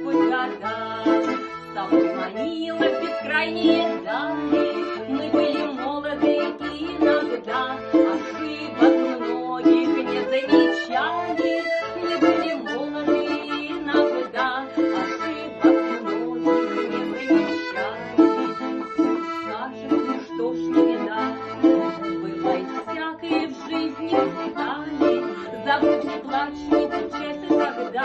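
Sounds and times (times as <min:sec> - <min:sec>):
accordion playing: 0:00.0 - 0:28.0
plucked string accompaniment: 0:00.0 - 0:28.0.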